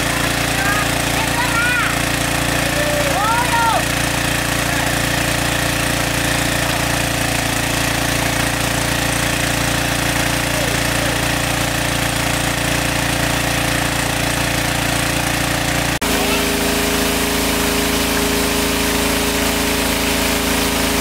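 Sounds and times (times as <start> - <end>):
water pump engine humming: 0.0 - 21.0.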